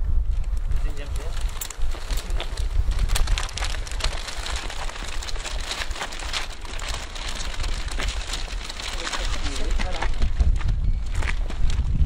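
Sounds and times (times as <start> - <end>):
crackling and rustling material: 0.0 - 12.0
wind rumble on microphone: 0.0 - 12.0.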